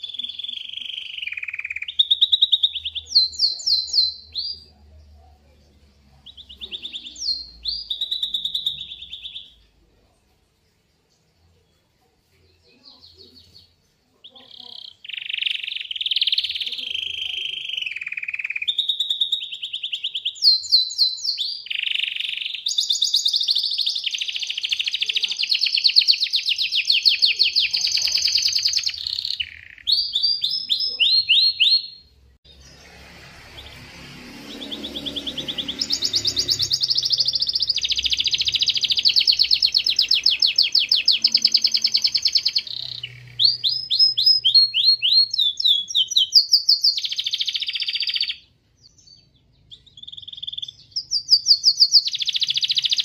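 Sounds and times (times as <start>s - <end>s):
canary singing trills: 0.0s - 11.9s, 12.5s - 53.0s.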